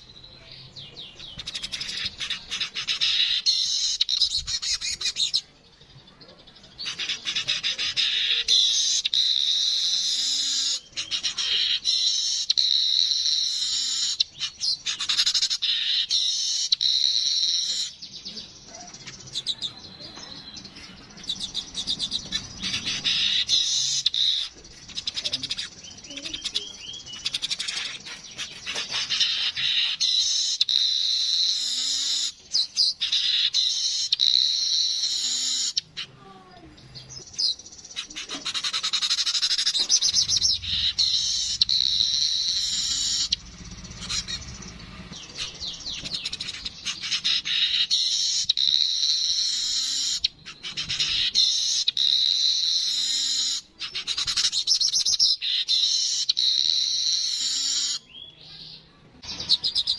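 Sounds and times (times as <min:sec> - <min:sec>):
bird buzzy chattering and ticking: 0:06.7 - 0:36.1, 0:37.3 - 0:58.0.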